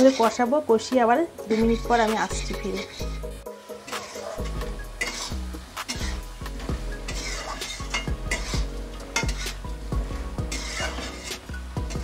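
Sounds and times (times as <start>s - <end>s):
metal spatula scraping a pan: 0.0s - 12.0s
spice paste sizzling in oil: 0.0s - 12.0s.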